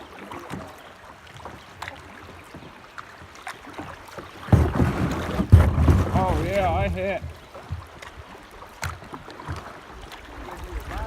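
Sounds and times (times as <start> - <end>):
paddle knocks and water splashes: 0.0 - 11.0.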